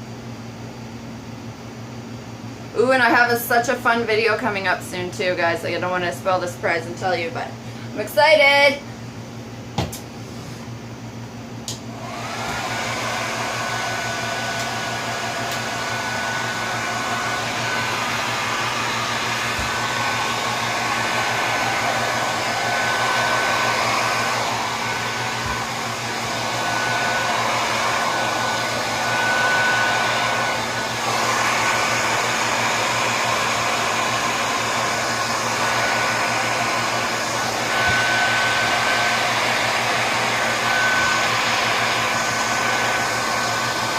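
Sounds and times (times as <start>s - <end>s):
blow dryer blowing: 2.7s - 8.8s, 11.7s - 43.9s.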